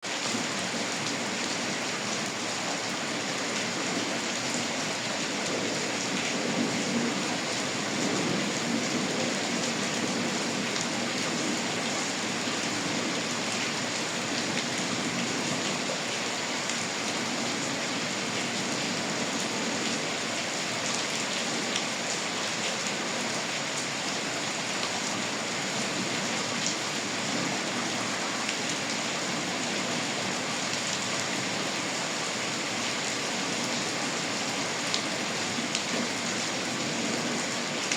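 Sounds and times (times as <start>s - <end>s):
steady rainfall: 0.0s - 37.9s.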